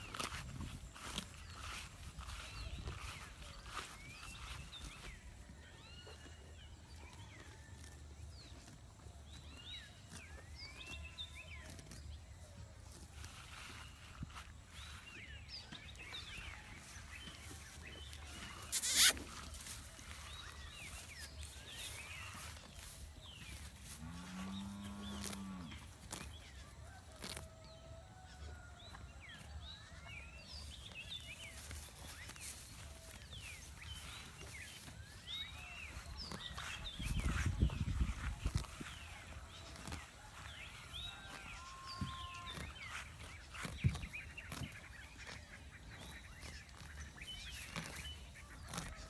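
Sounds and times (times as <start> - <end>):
small birds chirping: 0.0 - 7.2, 8.3 - 27.9, 29.2 - 49.0.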